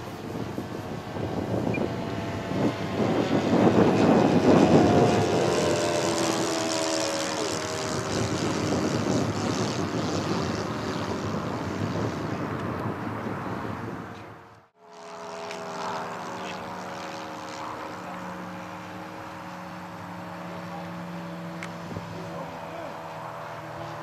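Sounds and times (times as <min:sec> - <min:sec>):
model plane motor whirring: 0:00.0 - 0:14.2, 0:14.8 - 0:24.0.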